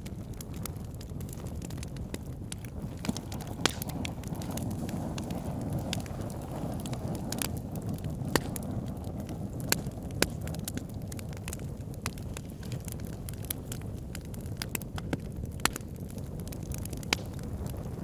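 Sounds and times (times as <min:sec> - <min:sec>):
fire crackling and popping: 0:00.0 - 0:18.0
roar of flames: 0:00.0 - 0:18.0.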